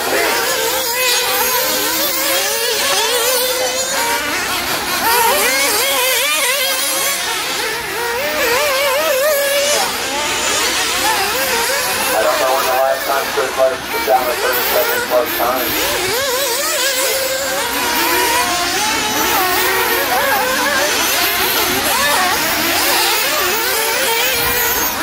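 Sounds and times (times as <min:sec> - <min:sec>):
rc car engines buzzing and revving: 0:00.0 - 0:25.0.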